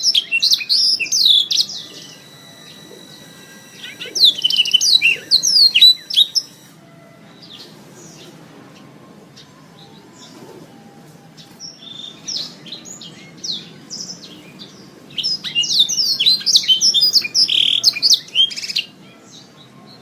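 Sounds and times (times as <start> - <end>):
canary singing trills: 0.0 - 20.0.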